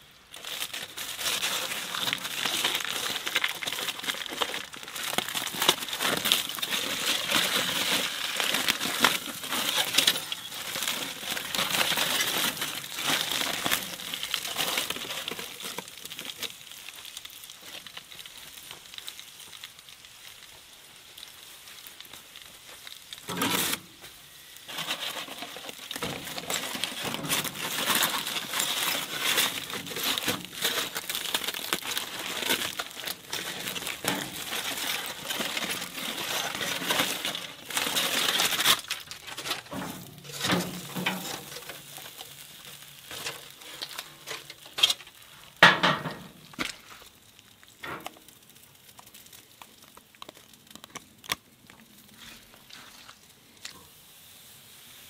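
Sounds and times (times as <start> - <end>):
aluminium foil crinkling: 0.0 - 54.0.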